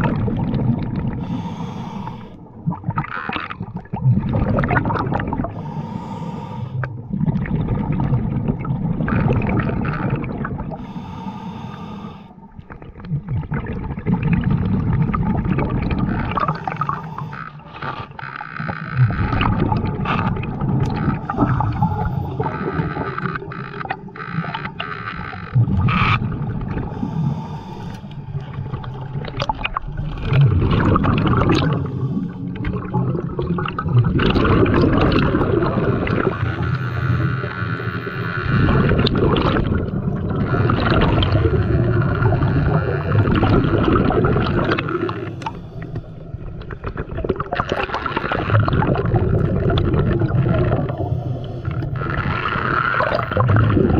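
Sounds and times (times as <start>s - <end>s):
faint steady hum: 0.0s - 53.9s
muffled underwater water rushing: 0.0s - 53.9s.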